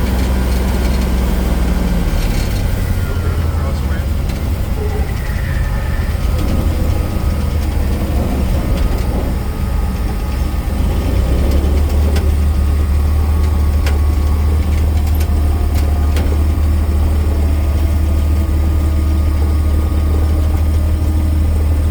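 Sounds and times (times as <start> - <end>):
propeller aircraft engine rumble: 0.0 - 21.9.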